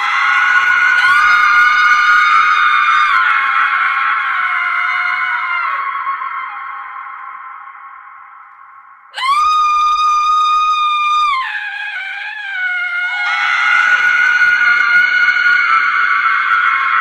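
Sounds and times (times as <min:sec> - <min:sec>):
women screaming: 0:00.0 - 0:06.2, 0:09.2 - 0:17.0.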